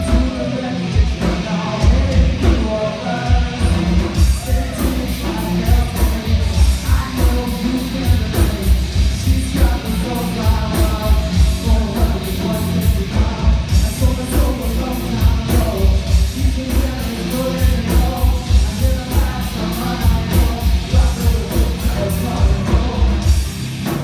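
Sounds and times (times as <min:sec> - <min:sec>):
cymbals keeping a beat: 0:00.0 - 0:24.0
live rock band playing: 0:00.0 - 0:24.0
person singing: 0:00.0 - 0:24.0.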